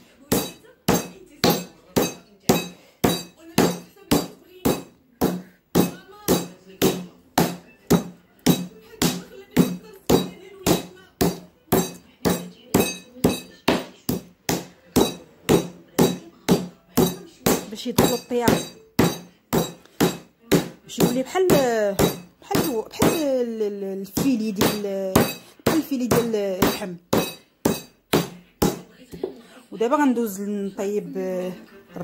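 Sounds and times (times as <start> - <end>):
rolling pin pounding meat on board: 0.3 - 28.9.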